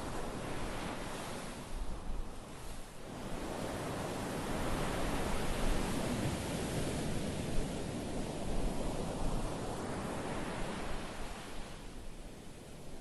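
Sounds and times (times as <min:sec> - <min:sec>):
waves washing on sandy beach: 0:00.0 - 0:13.0.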